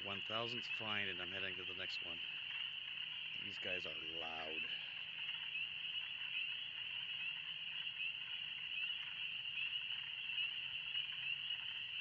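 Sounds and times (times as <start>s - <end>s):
chorus of frogs peeping: 0.0s - 12.0s.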